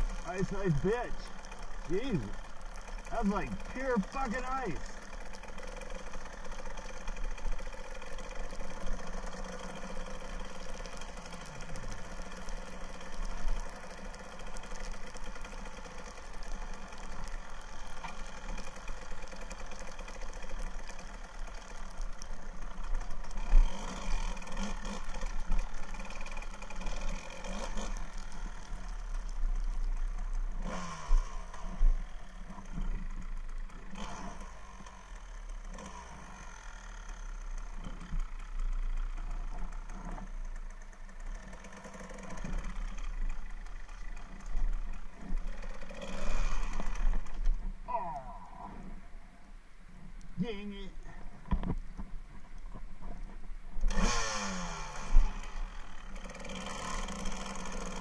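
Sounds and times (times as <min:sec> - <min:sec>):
dirt bike engine revving: 0:00.0 - 0:49.0, 0:53.8 - 0:58.0.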